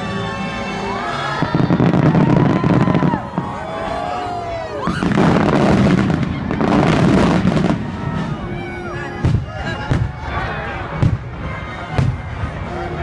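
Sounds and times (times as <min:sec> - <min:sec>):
whistling firework tones: 0:00.1 - 0:12.6
fireworks booming and crackling: 0:01.4 - 0:04.0, 0:04.8 - 0:12.8.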